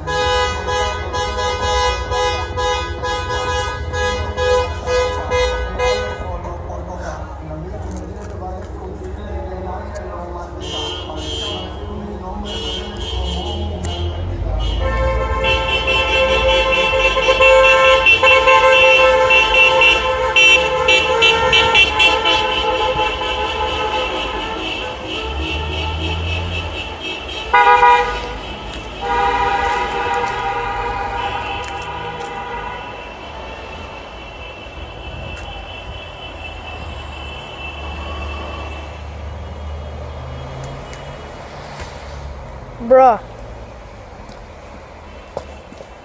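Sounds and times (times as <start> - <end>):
car horns honking: 0.0 - 6.6, 10.4 - 41.6
traffic noise: 0.0 - 46.0
vehicle engine rumble: 0.0 - 46.0.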